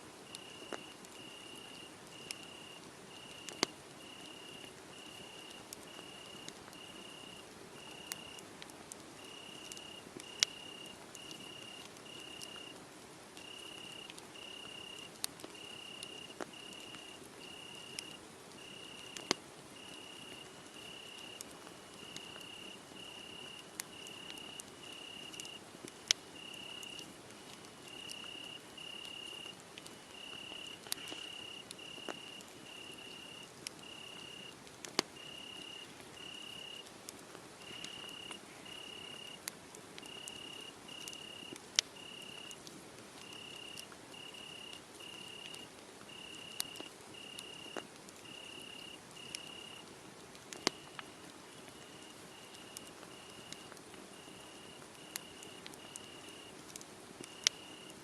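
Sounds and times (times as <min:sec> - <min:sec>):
crickets chirping: 0:00.3 - 0:08.4, 0:09.2 - 0:12.7, 0:13.4 - 0:25.6, 0:26.4 - 0:27.1, 0:27.8 - 0:34.5, 0:35.2 - 0:36.8, 0:37.6 - 0:39.4, 0:40.1 - 0:42.6, 0:43.2 - 0:49.8, 0:50.6 - 0:51.0, 0:51.8 - 0:56.5, 0:57.3 - 0:57.9
wood fire crackling and popping: 0:00.3 - 0:58.0.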